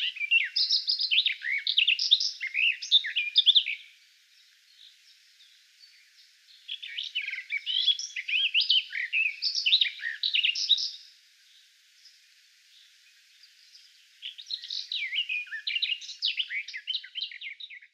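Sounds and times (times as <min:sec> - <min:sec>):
bird warbling song: 0:00.0 - 0:17.9.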